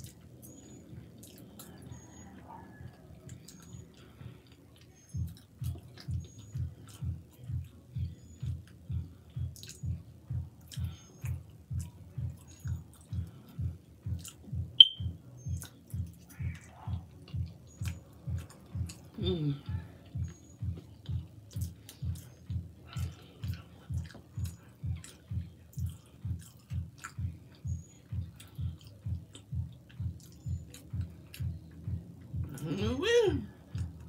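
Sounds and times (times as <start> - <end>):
close-up chewing: 0.0 - 14.8, 15.5 - 32.8, 33.5 - 34.0.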